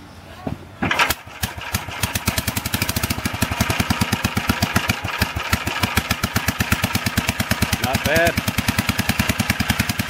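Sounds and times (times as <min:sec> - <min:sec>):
single-cylinder engine running: 0:00.8 - 0:10.0.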